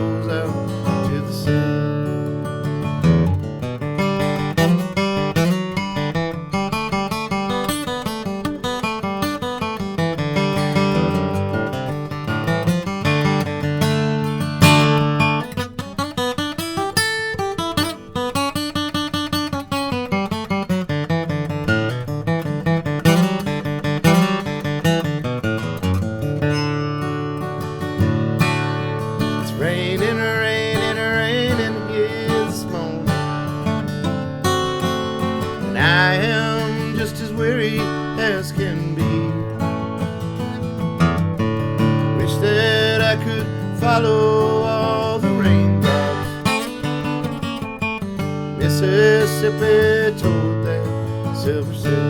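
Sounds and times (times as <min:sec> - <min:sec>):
acoustic guitar playing: 0:00.0 - 0:52.0.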